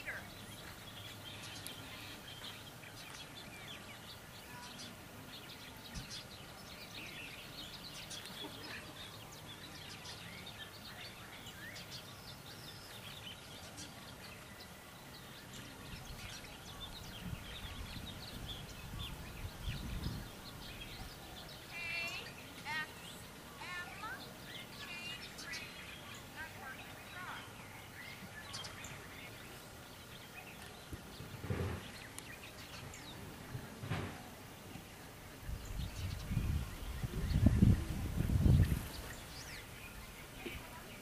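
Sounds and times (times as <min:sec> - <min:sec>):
birds chirping and calling: 0:00.0 - 0:41.0
outdoor background noise: 0:00.0 - 0:41.0.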